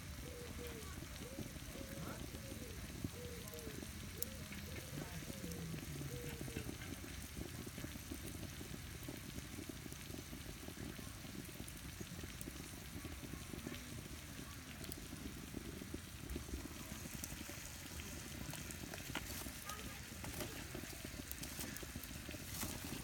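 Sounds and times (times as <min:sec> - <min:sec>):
vegetables sizzling in a frying pan: 0:00.0 - 0:23.0.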